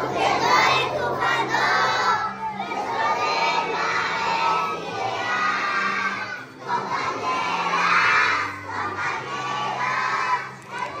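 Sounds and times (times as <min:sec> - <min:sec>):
backing music: 0:00.0 - 0:11.0
children singing a hymn loudly: 0:00.0 - 0:11.0.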